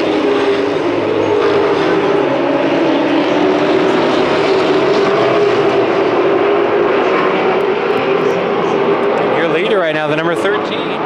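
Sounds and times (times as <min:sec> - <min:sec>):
race truck engines droning: 0:00.0 - 0:11.0.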